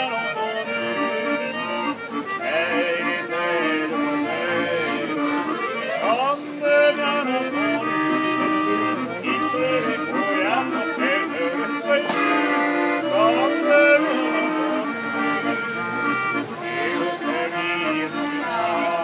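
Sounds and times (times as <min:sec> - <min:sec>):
barrel organ playing: 0:00.0 - 0:19.0.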